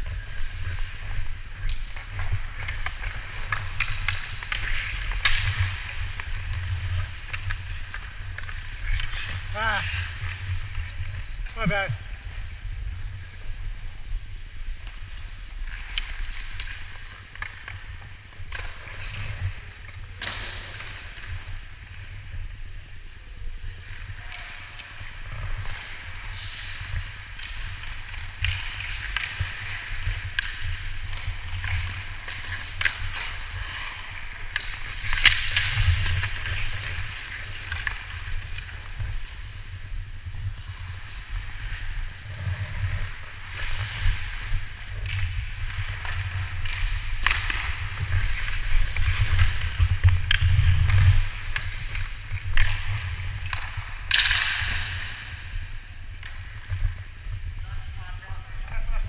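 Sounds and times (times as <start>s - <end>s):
hockey sticks and puck clacking: 0.0s - 59.0s
skates scraping on ice: 0.0s - 59.0s.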